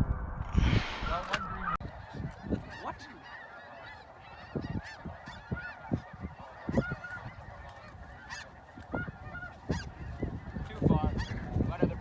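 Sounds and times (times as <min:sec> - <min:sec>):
geese honking: 0:01.8 - 0:12.0.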